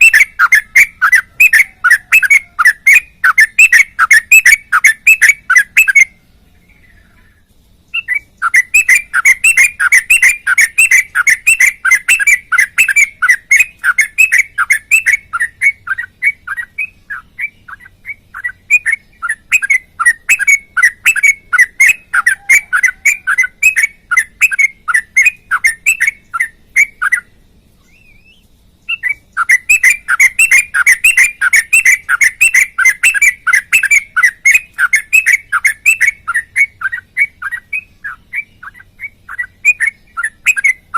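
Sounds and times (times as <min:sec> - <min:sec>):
bulbul singing sharp notes: 0:07.9 - 0:40.9.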